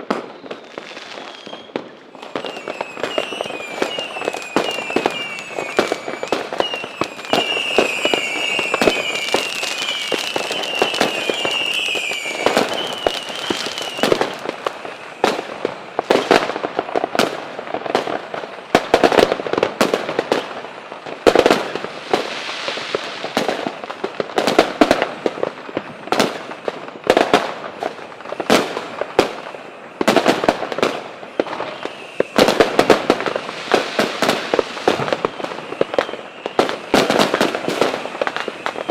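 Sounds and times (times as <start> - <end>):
fireworks bangs and crackling: 0.0 - 38.9
whistling fireworks: 0.0 - 38.9.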